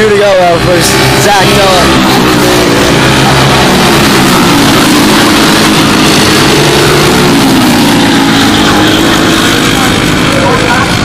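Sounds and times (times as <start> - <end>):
kart engines buzzing past: 0.0 - 11.0.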